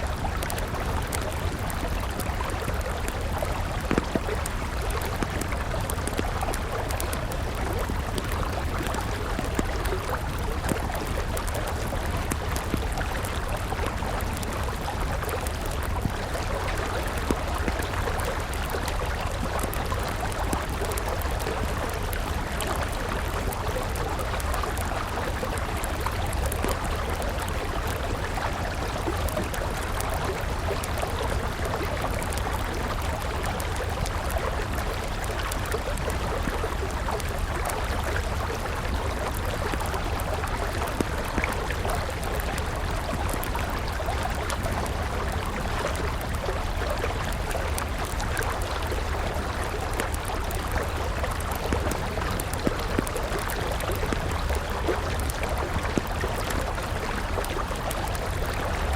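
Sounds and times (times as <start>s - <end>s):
river running: 0.0s - 58.9s
wood fire crackling: 0.0s - 58.9s.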